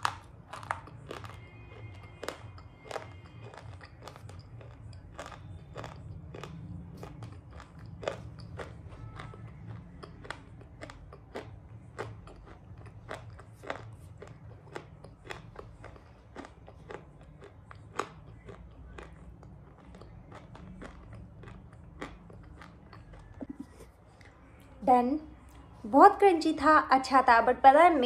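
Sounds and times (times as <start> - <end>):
crunchy chewing: 0.0 - 24.4.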